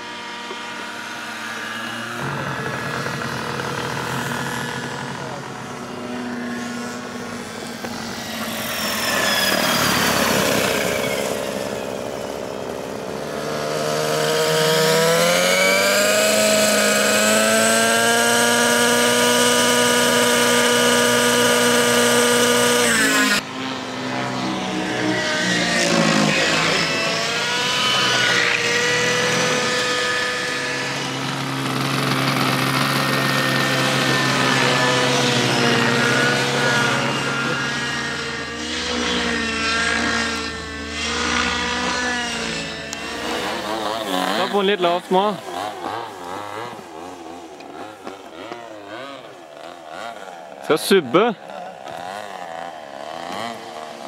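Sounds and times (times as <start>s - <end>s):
model helicopter engine whine: 0.0s - 54.0s.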